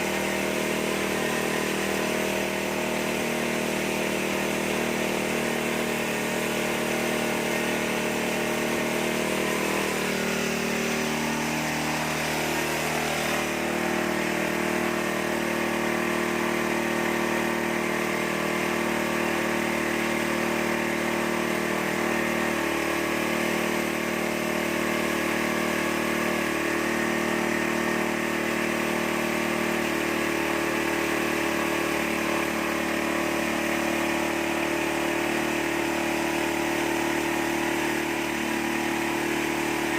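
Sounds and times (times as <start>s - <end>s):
corn-cracking machine running: 0.0s - 39.9s.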